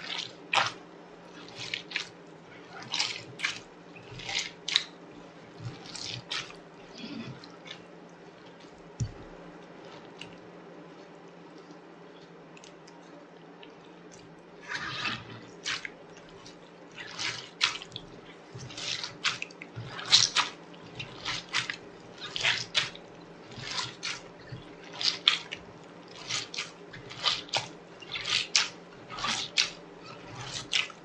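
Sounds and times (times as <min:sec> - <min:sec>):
wet slime squelches: 0:00.0 - 0:31.0.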